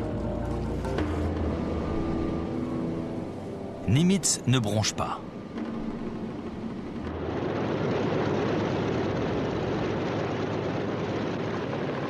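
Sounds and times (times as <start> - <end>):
propeller aircraft engines: 0.0 - 12.0.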